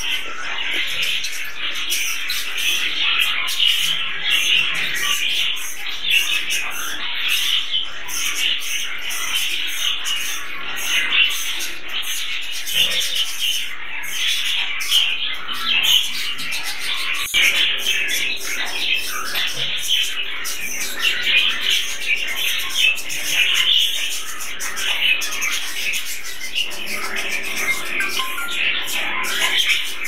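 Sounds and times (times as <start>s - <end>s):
budgerigars chattering and warbling: 0.0s - 30.0s.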